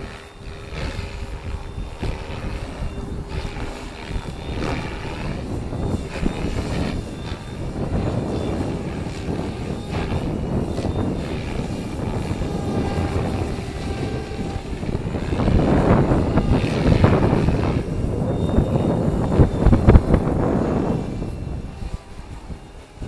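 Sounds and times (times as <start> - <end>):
model helicopter rotor and motor: 0.0 - 23.0
wind buffeting microphone: 0.0 - 23.0.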